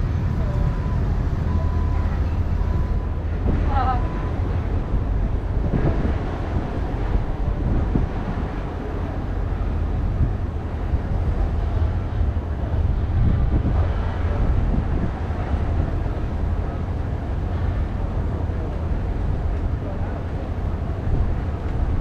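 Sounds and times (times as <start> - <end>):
ferry engine rumble: 0.0 - 22.0
wind on microphone: 0.0 - 22.0.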